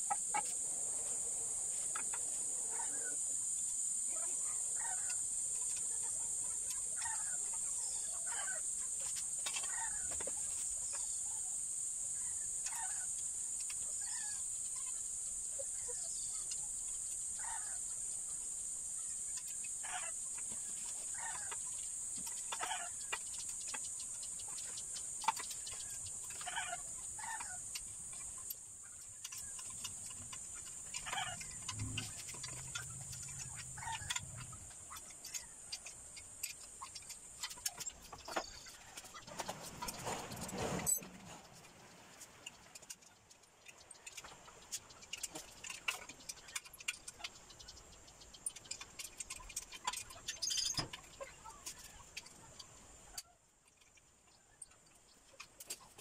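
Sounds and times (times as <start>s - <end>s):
steady high hiss: 0.0s - 46.0s.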